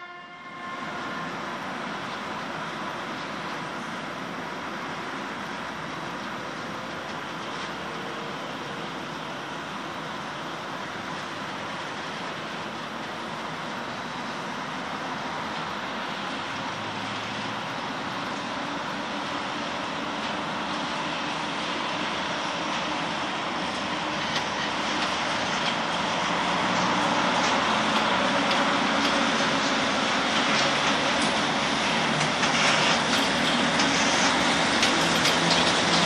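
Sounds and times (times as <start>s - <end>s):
electric locomotive running: 0.0s - 36.0s.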